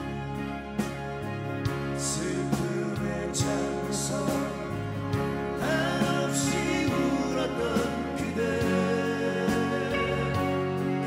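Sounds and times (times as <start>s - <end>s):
folk-pop band playing: 0.0s - 11.0s
strummed acoustic guitars: 0.0s - 11.0s
person singing: 1.9s - 11.0s.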